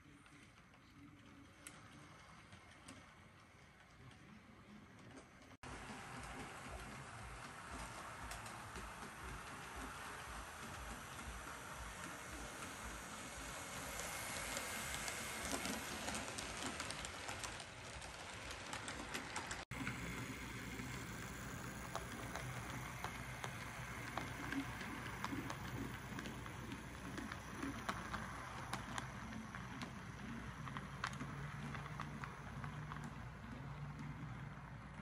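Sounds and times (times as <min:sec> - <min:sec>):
model train wheels ticking on rails: 0:05.6 - 0:35.0
train motor humming: 0:05.6 - 0:35.0
wheel clicks: 0:06.2 - 0:34.4.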